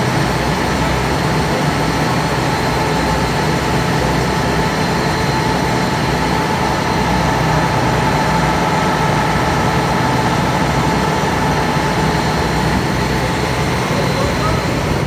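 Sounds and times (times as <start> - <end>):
faint steady whine: 0.0 - 15.0
ferry engine droning: 0.0 - 15.0.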